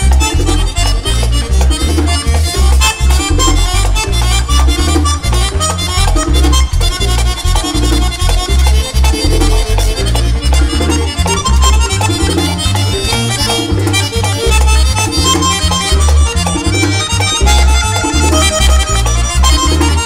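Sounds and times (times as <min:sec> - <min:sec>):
button accordion lead: 0:00.0 - 0:20.0
electric bass line: 0:00.0 - 0:20.0
steady percussion: 0:00.0 - 0:20.0.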